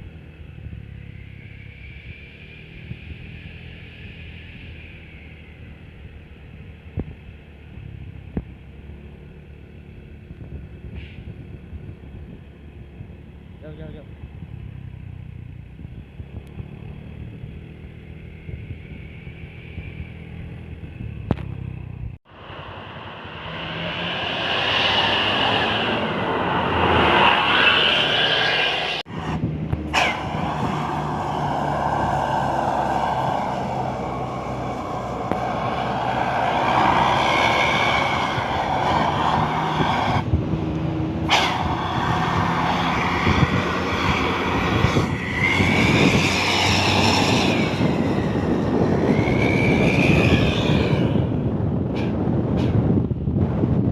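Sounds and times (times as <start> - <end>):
road noise: 0.0 - 53.9.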